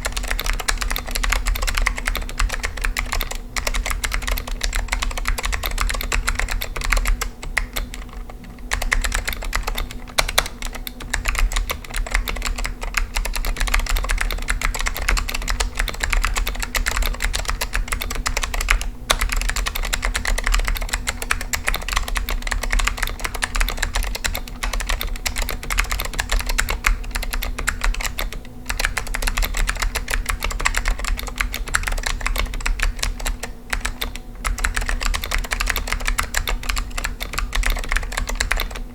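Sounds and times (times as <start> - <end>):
clicky keyboard typing: 0.0 - 38.8.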